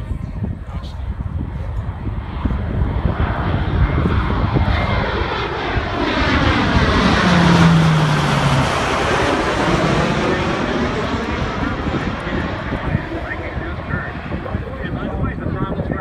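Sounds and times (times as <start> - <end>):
turboprop aircraft flying overhead: 0.0 - 16.0.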